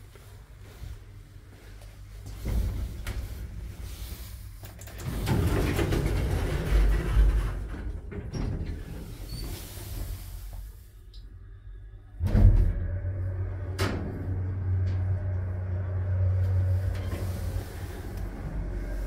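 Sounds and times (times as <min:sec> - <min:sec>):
lift doors rumbling and clattering: 0:00.0 - 0:19.0.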